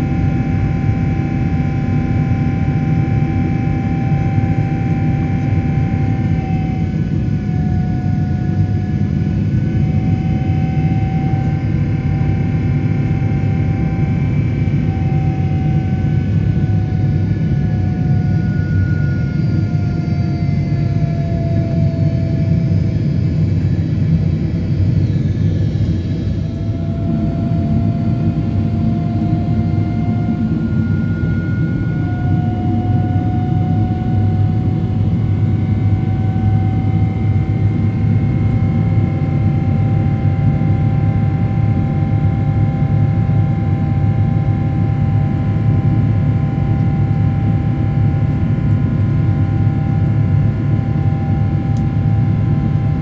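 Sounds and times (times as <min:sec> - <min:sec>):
airliner cabin roar: 0:00.0 - 0:53.0
faint rising whine: 0:00.0 - 0:53.0.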